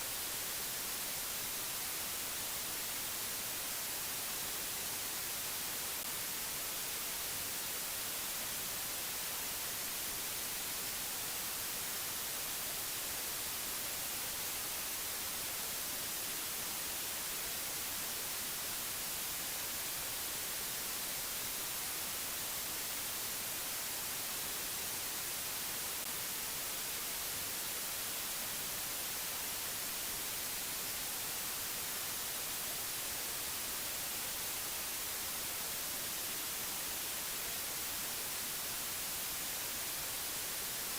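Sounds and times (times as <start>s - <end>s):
static-like hiss: 0.0s - 40.9s.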